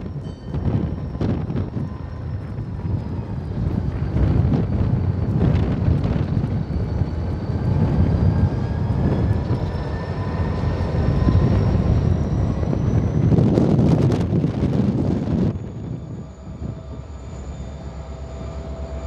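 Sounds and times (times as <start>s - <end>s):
diesel locomotives rumbling past: 0.0s - 19.0s
faint rising whine: 0.0s - 19.0s
wind buffeting microphone: 0.0s - 19.0s.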